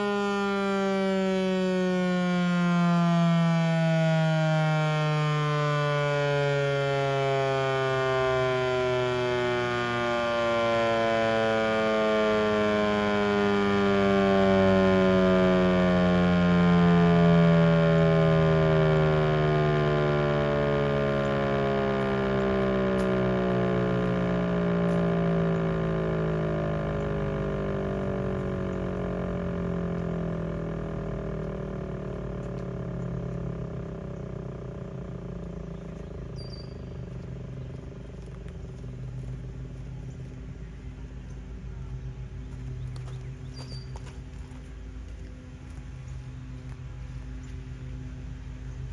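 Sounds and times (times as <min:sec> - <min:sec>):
warning siren winding down: 0:00.0 - 0:48.9.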